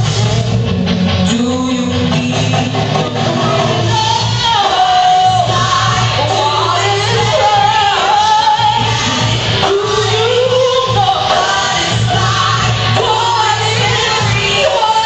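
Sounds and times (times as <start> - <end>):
live band with drums: 0.0 - 15.0
woman singing into a microphone: 1.3 - 15.0.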